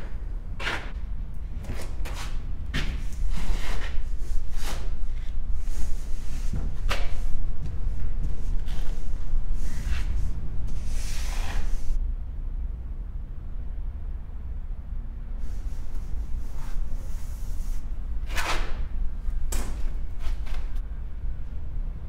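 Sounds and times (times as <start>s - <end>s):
steady low rumble: 0.0s - 18.2s.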